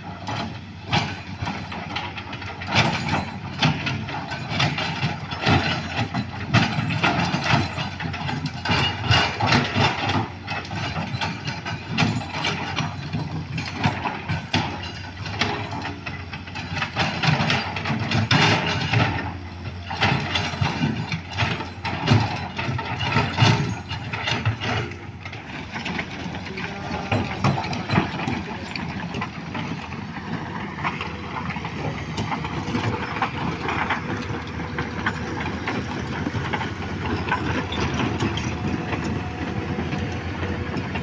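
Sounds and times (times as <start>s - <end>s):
diesel engine running: 0.0s - 41.0s
metallic clanks and knocks: 0.0s - 41.0s.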